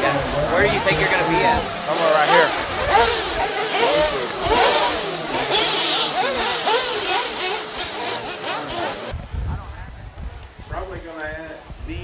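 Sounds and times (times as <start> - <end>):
rc car engines revving: 0.0 - 12.0.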